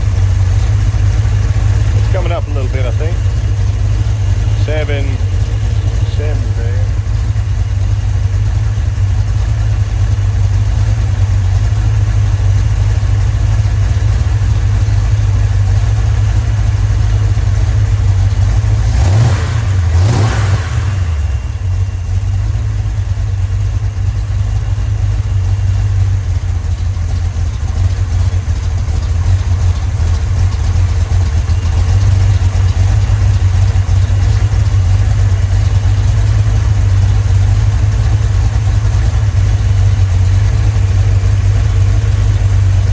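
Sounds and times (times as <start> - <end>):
engine idling and revving: 0.0 - 42.9.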